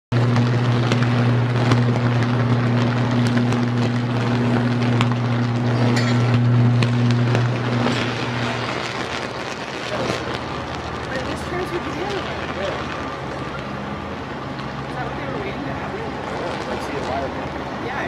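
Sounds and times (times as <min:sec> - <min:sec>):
electric arc buzzing and crackling: 0:00.1 - 0:18.0.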